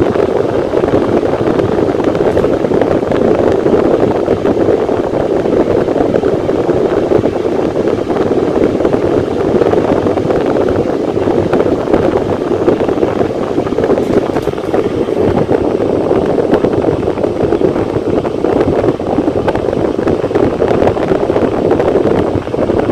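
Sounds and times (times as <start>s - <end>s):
electric fan running: 0.0s - 22.9s.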